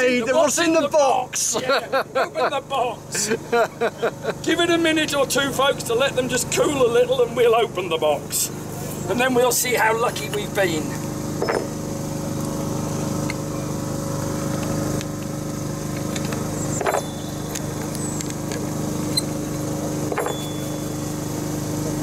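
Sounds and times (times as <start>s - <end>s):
blower motor humming and whirring: 1.0s - 22.0s.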